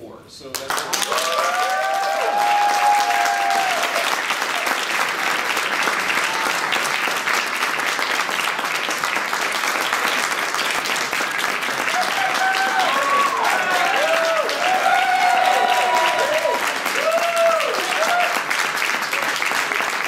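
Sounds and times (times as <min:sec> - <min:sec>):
audience applauding: 0:00.5 - 0:20.0.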